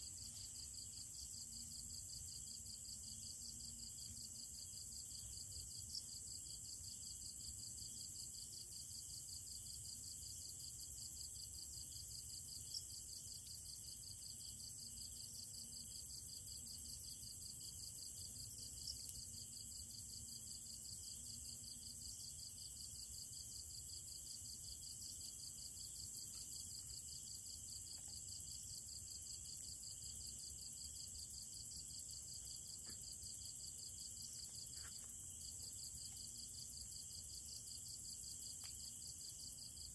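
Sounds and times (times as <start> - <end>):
insects pulsing trill: 0.0 - 39.9.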